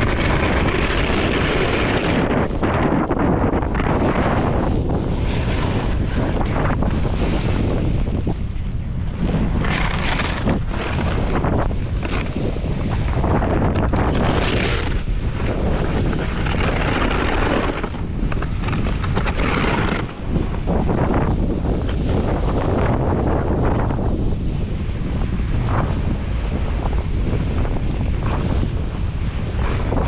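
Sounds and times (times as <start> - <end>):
snowboard sliding over snow: 0.0 - 30.0
wind buffeting microphone: 0.0 - 30.0.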